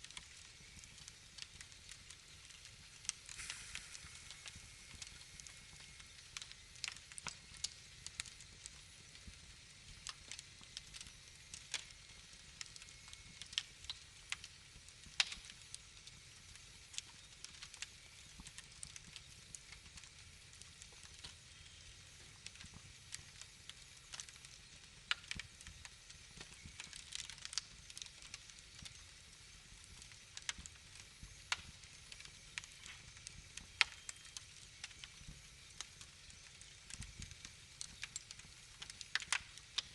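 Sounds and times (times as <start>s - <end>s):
faint steady hiss: 0.0s - 39.9s
fire crackling and popping: 0.0s - 39.9s.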